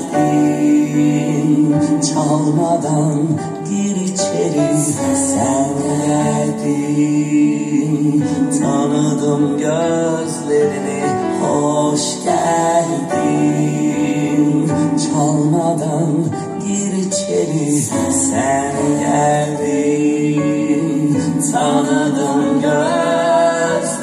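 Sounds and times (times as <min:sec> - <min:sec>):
song with singing over loudspeakers: 0:00.0 - 0:24.0.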